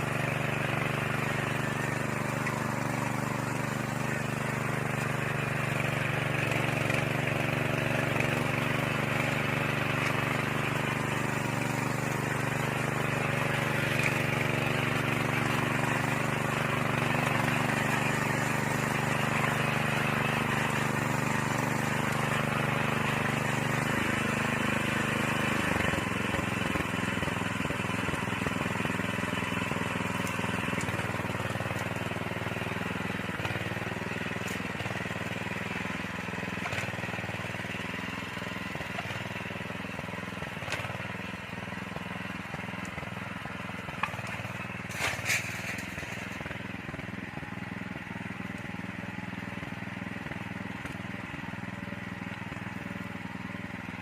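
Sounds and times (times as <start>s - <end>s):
soil tiller engine running: 0.0s - 54.0s.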